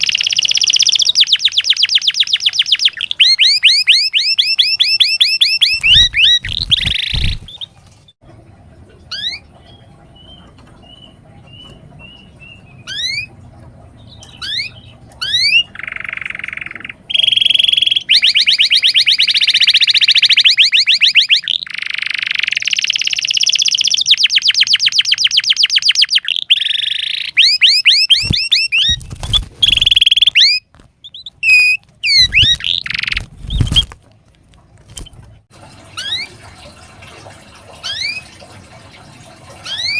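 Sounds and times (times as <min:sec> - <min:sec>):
canary singing: 0:00.0 - 0:07.8, 0:09.1 - 0:13.4, 0:14.0 - 0:33.9, 0:36.0 - 0:36.4, 0:37.8 - 0:38.3, 0:39.6 - 0:39.9.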